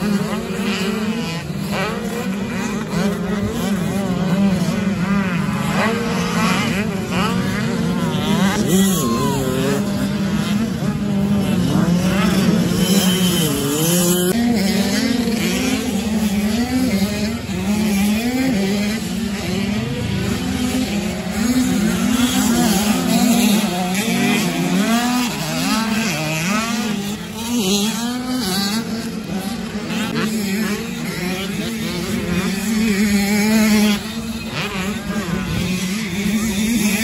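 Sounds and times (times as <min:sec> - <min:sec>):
motocross bike engines revving: 0:00.0 - 0:37.0.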